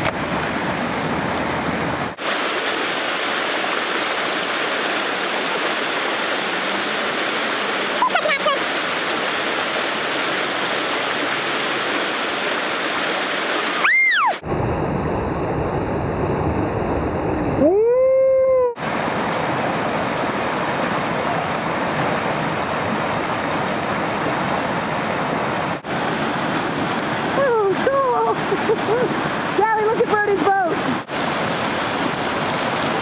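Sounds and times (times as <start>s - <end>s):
rushing whitewater: 0.0s - 14.4s, 18.8s - 33.0s.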